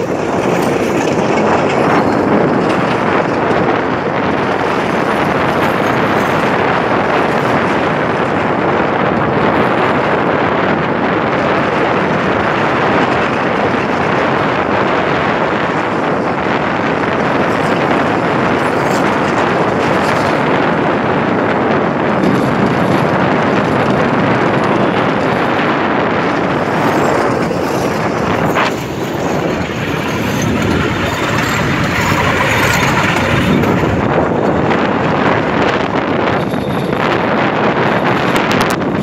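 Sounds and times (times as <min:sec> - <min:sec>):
wheels on rail track: 0:00.0 - 0:39.0
wind on microphone: 0:00.0 - 0:39.0.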